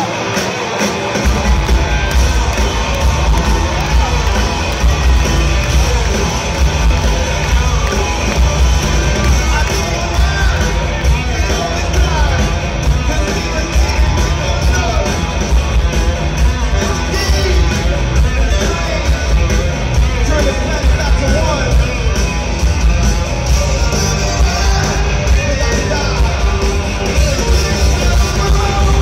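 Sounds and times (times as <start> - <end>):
crowd noise: 0.0 - 29.0
rock band playing live: 0.0 - 29.0
heavy bass: 1.2 - 29.0.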